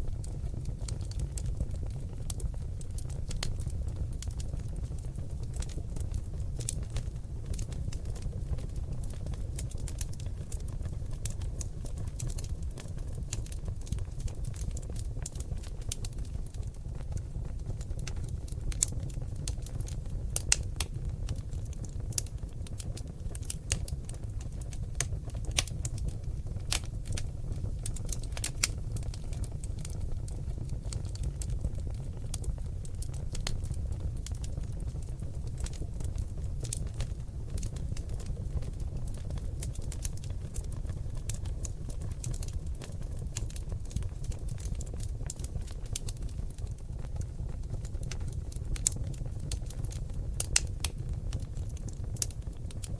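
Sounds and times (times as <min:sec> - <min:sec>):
logs crackling and popping: 0:00.0 - 0:52.9
low rumble of flames: 0:00.0 - 0:52.9.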